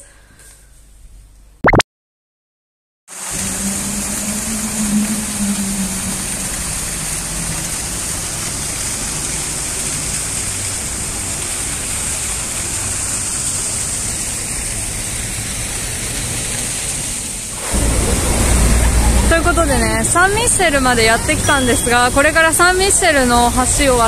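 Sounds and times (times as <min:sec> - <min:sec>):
fountain water splashing: 0:03.1 - 0:24.0
low traffic hum: 0:03.2 - 0:24.0.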